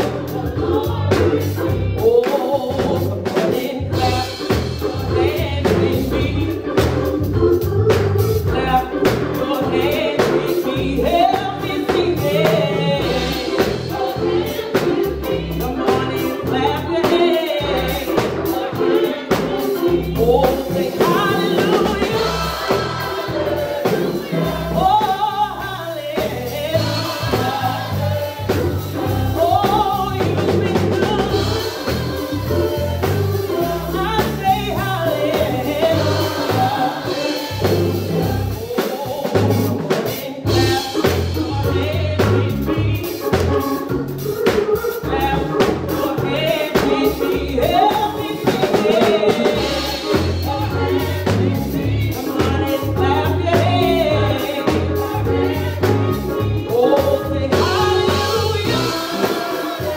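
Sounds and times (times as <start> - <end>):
bass and drums: 0.0 - 59.9
women singing gospel: 0.0 - 59.9.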